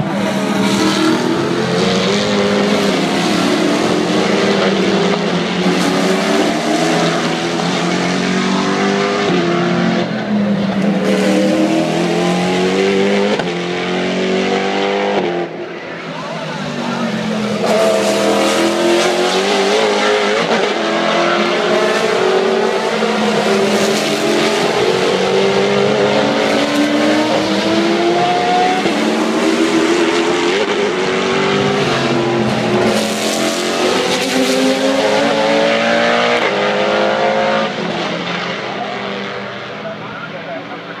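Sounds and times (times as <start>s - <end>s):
race cars accelerating past: 0.0s - 40.0s.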